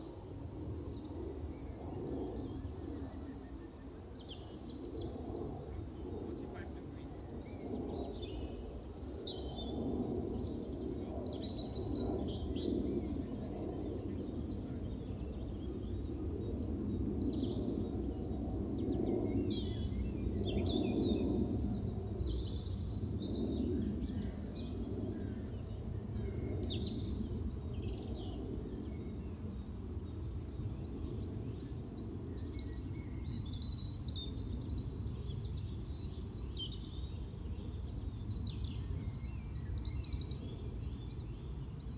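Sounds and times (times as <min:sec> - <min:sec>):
small birds singing: 0:00.0 - 0:41.9.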